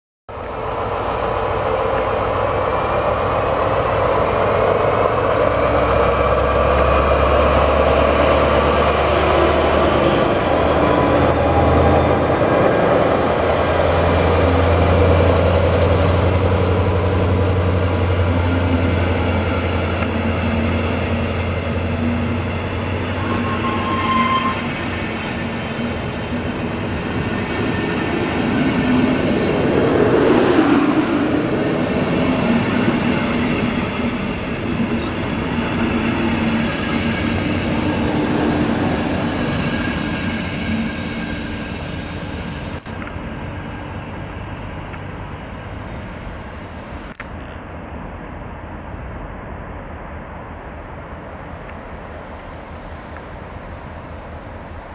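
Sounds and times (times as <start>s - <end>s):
train wheels rumbling on rails: 0.3s - 50.2s
diesel locomotive droning: 0.3s - 54.9s.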